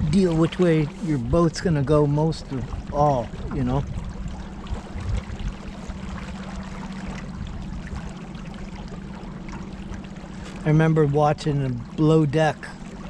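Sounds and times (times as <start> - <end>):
steady low hum: 0.0 - 13.0
water rushing along a boat: 0.0 - 13.0.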